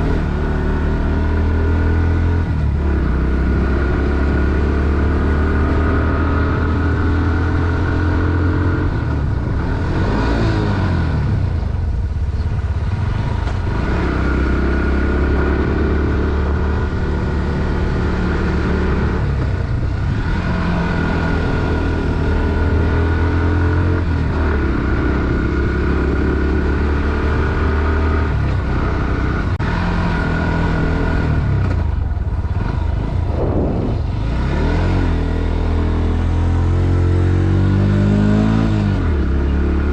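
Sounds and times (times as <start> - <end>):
motorcycle engine pulling uphill: 0.0 - 39.9.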